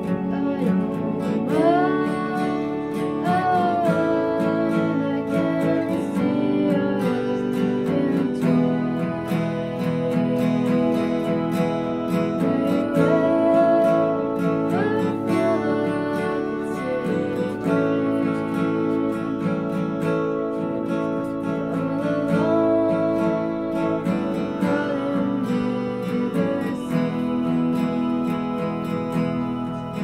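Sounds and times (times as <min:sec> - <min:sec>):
acoustic guitar strumming: 0:00.0 - 0:30.0
keyboard chords: 0:00.0 - 0:30.0
woman singing: 0:00.0 - 0:30.0.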